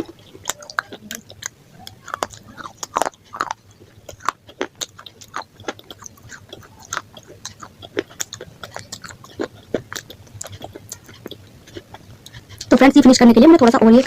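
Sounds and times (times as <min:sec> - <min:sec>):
person chewing crunchy food: 0:00.0 - 0:13.8.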